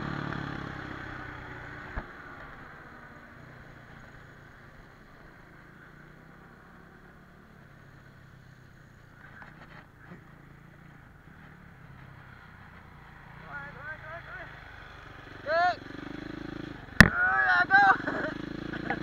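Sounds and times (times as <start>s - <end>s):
motorcycle engine running: 0.0s - 19.0s
road and tyre noise: 0.0s - 19.0s.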